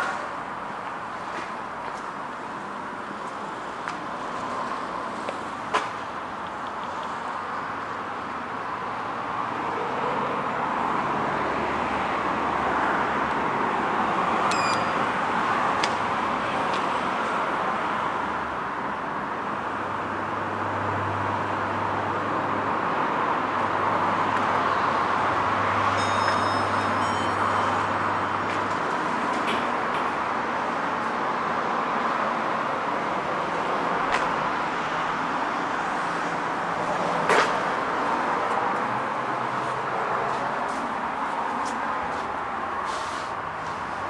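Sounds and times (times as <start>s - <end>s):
traffic noise: 0.0s - 44.0s.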